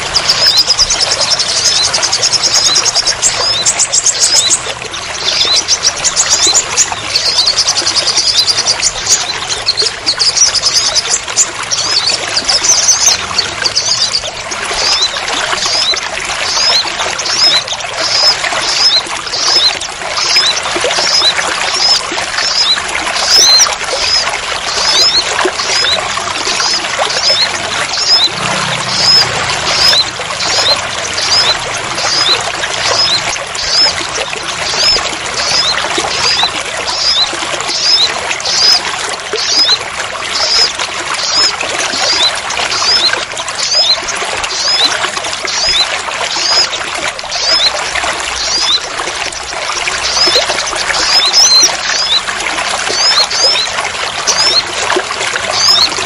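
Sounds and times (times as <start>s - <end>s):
heavy rain pouring and splashing: 0.0s - 10.5s, 11.1s - 56.0s
small bird chirping: 0.0s - 26.0s, 26.6s - 38.8s, 40.4s - 48.8s, 49.4s - 52.2s.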